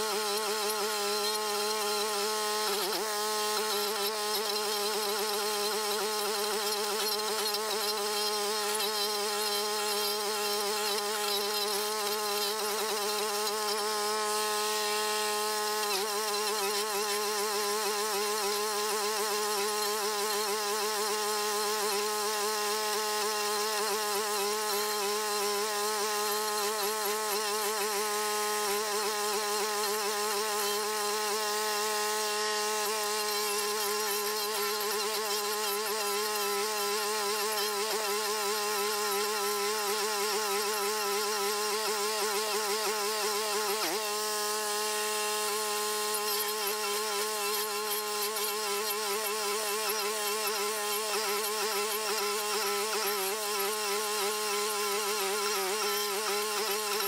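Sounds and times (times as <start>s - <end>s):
cutting wheel grinding stump: 0.0s - 57.0s
stump grinder engine whining: 0.0s - 57.0s.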